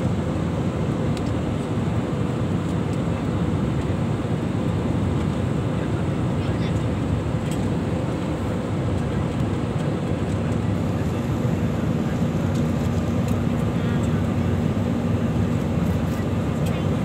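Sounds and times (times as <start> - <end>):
airliner cabin engine noise: 0.0 - 17.0.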